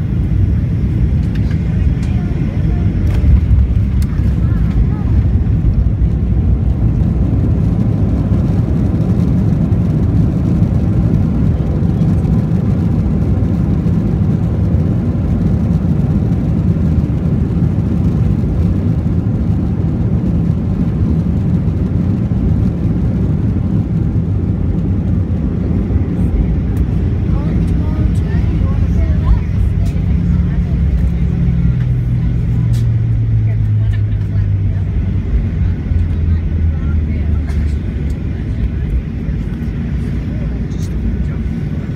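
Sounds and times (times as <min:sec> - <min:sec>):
jet engine low rumble in cabin: 0:00.0 - 0:41.9.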